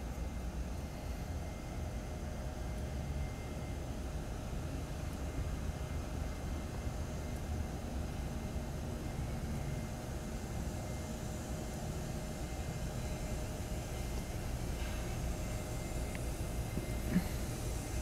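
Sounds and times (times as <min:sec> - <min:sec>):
electric locomotive rumbling: 0:00.0 - 0:18.0
faint steady hum: 0:00.0 - 0:18.0.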